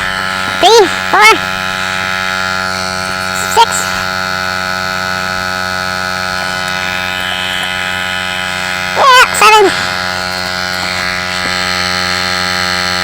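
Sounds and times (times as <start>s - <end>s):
tyre inflator compressor buzzing: 0.0s - 13.0s.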